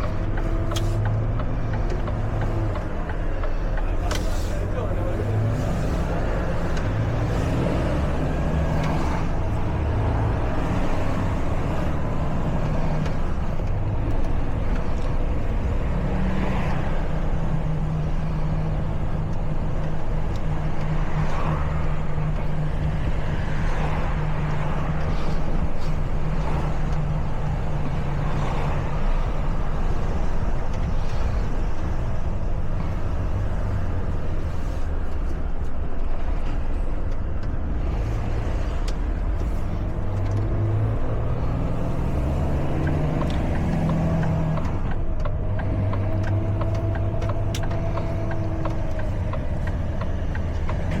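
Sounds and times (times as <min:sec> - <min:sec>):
traffic noise: 0:00.0 - 0:51.0.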